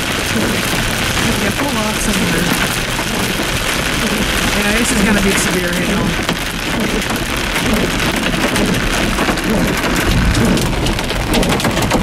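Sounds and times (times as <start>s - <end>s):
heavy rain on car roof: 0.0s - 12.0s
low thunder rumble: 0.0s - 12.0s.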